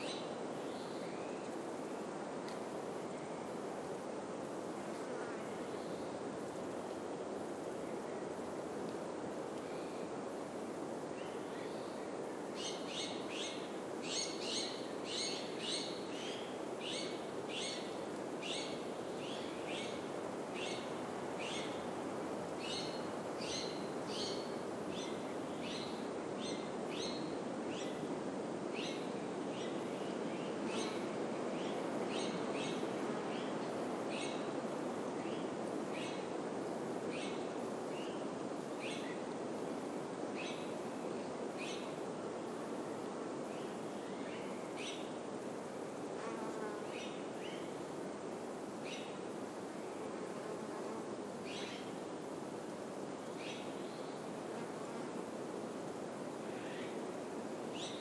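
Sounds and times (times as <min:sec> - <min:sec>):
wind through pine trees: 0:00.0 - 0:58.0.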